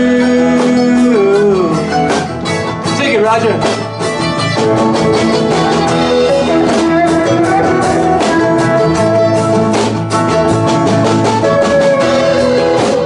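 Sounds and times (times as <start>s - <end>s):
bass guitar: 0.0s - 13.0s
electric guitar solo: 0.0s - 13.0s
strummed acoustic guitar: 0.0s - 13.0s.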